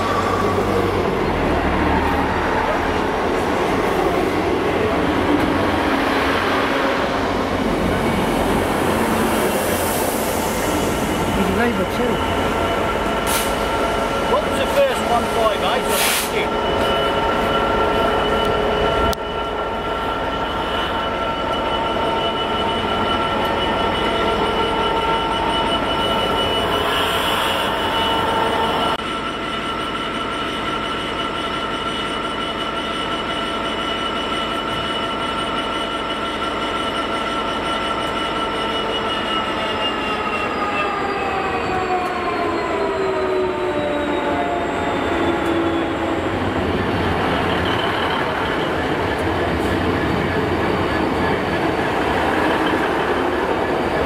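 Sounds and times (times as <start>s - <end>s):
metallic whine of diesel train: 0.0s - 54.0s
train rail noise: 0.0s - 54.0s.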